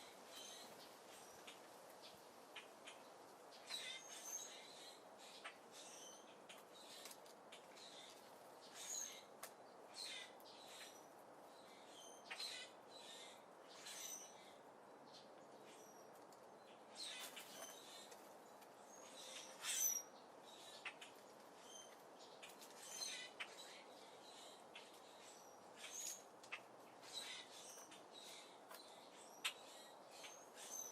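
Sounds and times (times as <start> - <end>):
small birds chirping: 0.0 - 30.9
steady low background hiss: 0.0 - 30.9.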